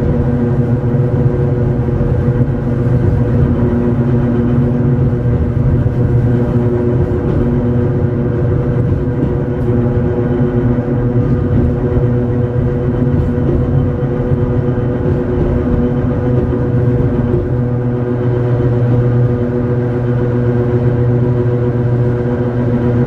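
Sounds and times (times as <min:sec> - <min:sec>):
traction motor hum: 0:00.0 - 0:23.0
wheels rumbling on track: 0:00.0 - 0:23.0.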